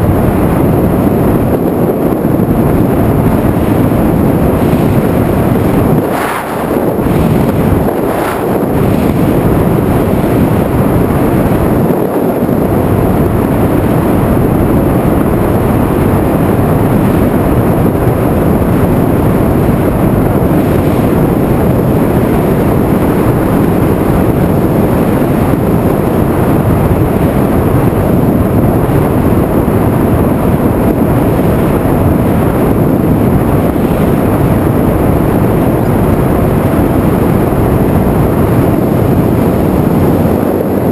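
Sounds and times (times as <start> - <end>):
drone air buffeting microphone: 0.0 - 40.9.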